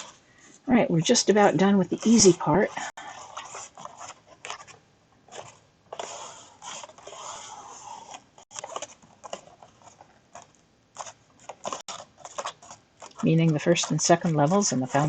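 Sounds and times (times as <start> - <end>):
paper rustling and scraping: 0.0 - 0.6, 1.4 - 15.0.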